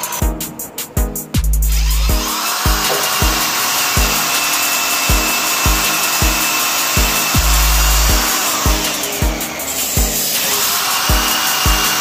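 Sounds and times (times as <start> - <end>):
music with bass beat: 0.0 - 12.0
electric drill whining: 1.8 - 12.0.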